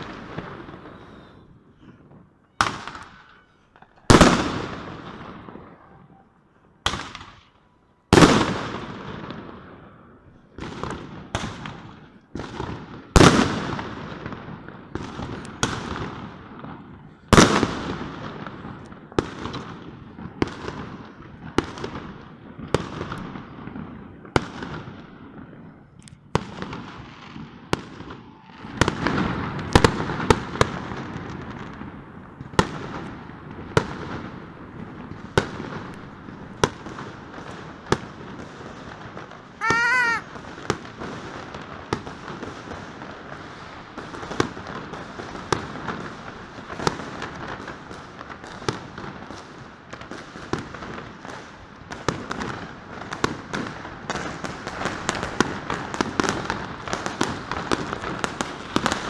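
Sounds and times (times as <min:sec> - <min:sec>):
fireworks banging with echo: 0:00.0 - 0:59.0.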